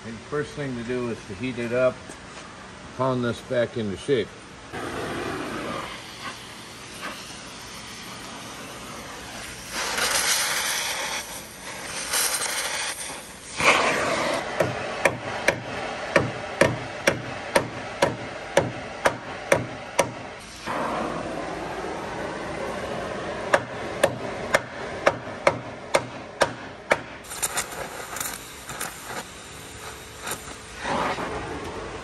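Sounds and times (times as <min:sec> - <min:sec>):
gas torch hissing: 0:04.7 - 0:32.0.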